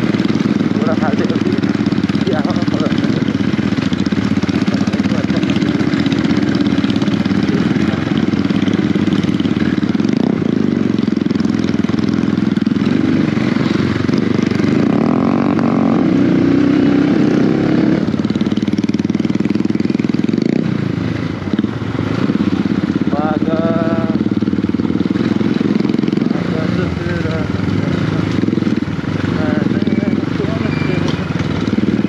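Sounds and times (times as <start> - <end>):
dirt bike engine: 0.0 - 32.0.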